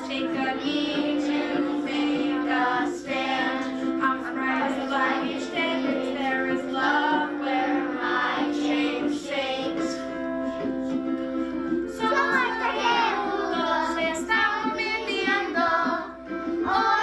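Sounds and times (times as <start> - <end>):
children's choir singing: 0.0 - 11.0, 11.9 - 17.0
instrumental accompaniment: 0.0 - 17.0.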